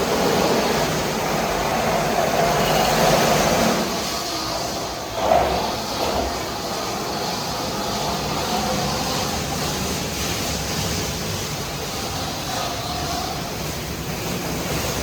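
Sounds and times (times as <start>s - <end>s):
high-pressure water spray rushing: 0.0s - 15.0s.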